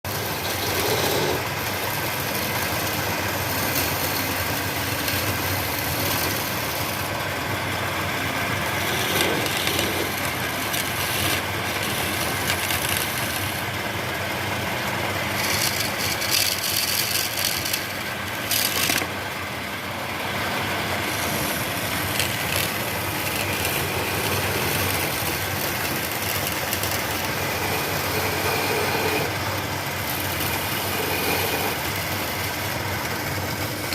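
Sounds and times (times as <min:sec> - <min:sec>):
tool cutting spinning wood: 0:00.0 - 0:33.9
wood lathe running: 0:00.0 - 0:33.9.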